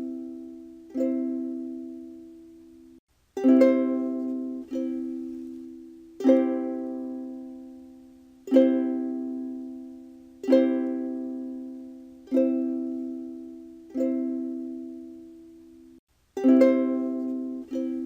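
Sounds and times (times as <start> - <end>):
ukulele chord strums: 0.0 - 18.0.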